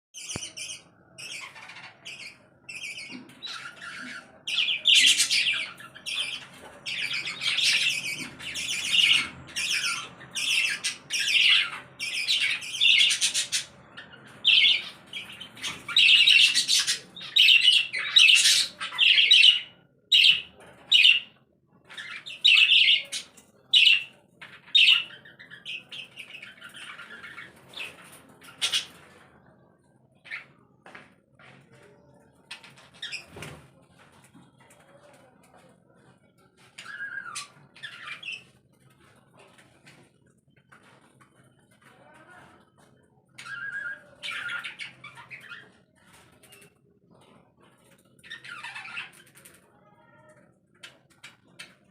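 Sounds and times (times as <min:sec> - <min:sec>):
cage birds chattering and squawking: 0:00.2 - 0:51.9.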